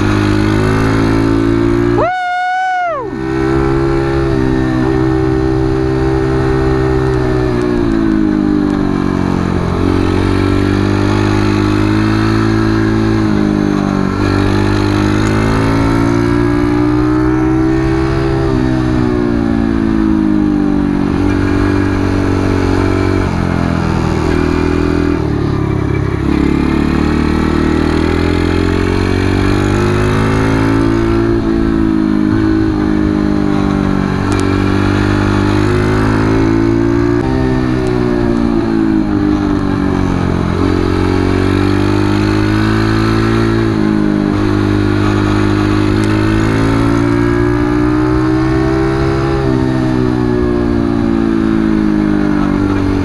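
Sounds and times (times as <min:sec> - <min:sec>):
small motorcycle engine: 0:00.0 - 0:53.0.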